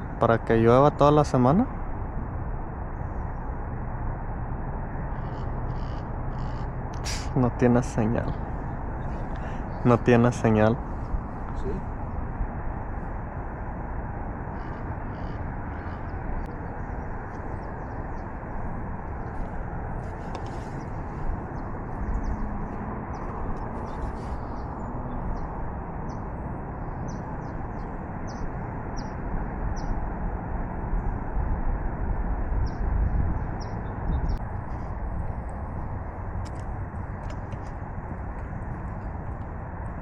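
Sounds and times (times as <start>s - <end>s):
steady rushing noise: 0.0s - 40.0s.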